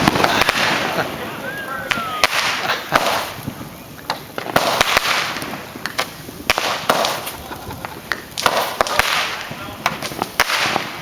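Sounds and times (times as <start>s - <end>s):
fireworks bangs and pops: 0.0s - 11.0s
fireworks crackling hiss: 0.0s - 11.0s.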